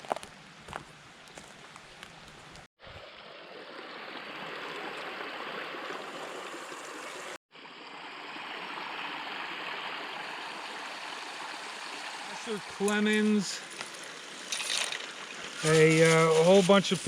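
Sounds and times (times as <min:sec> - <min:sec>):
mountain stream flowing: 0:00.0 - 0:17.0.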